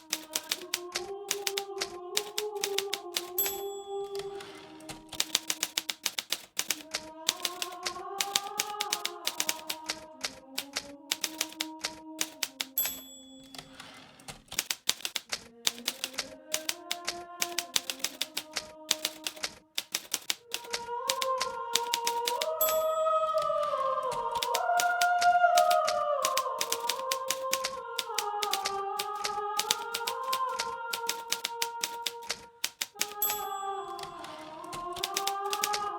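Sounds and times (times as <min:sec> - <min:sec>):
typewriter bell ring: 0:00.0 - 0:09.9, 0:10.6 - 0:25.0, 0:25.6 - 0:35.8
typewriter keys striking: 0:00.0 - 0:23.5, 0:24.1 - 0:35.9.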